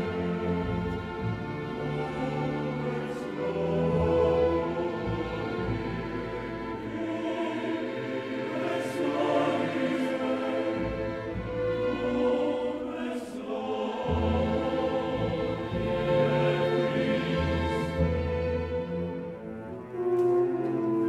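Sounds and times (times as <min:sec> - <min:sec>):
choir and orchestra sustained chords: 0:00.0 - 0:21.0.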